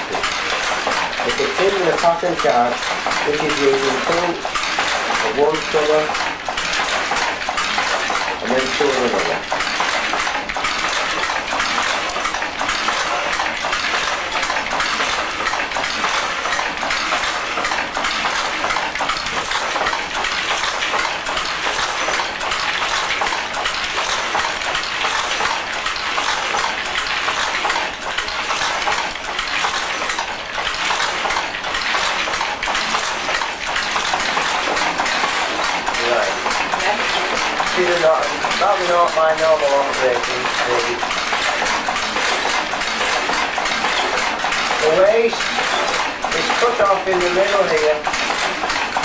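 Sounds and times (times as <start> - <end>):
loom mechanical clatter: 0.0 - 49.0.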